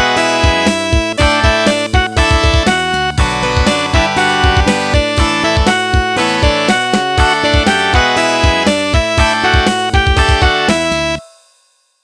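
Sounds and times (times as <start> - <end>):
synthesized ringtone tune: 0.0 - 11.5
drum beat: 0.4 - 10.7.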